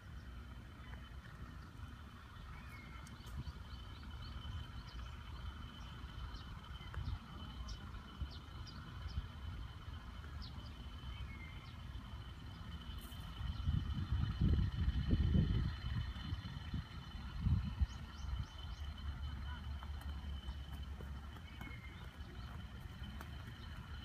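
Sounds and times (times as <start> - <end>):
bird chirps: 0.0 - 15.1, 15.7 - 24.0
low steady rumble: 0.0 - 24.0.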